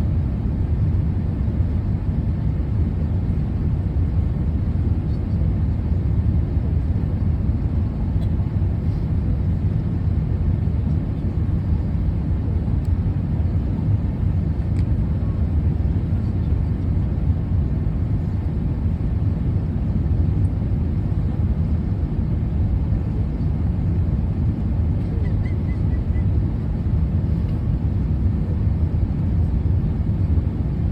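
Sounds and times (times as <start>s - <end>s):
vehicle low rumble: 0.0s - 30.9s.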